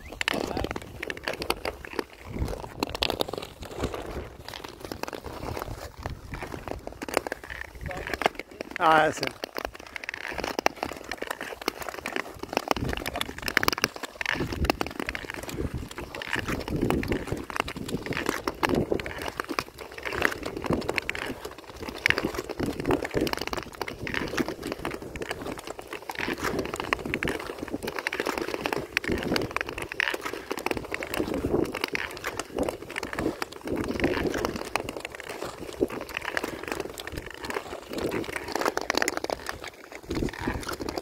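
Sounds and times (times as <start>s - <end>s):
ice skates scraping on ice: 0.0s - 41.0s.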